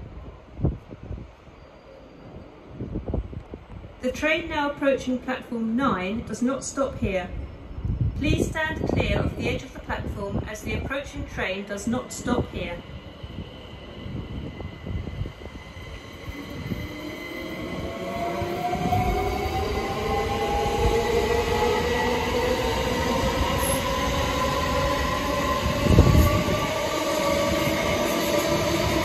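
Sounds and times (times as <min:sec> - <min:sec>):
train passing through: 0:00.0 - 0:29.0.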